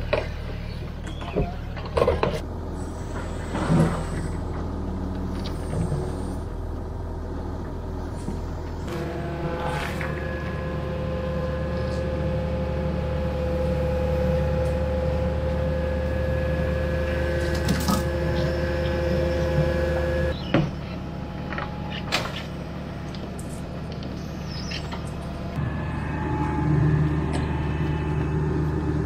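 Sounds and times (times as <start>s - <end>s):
diesel engine running under load: 0.0s - 29.0s
steady whine: 2.4s - 29.0s.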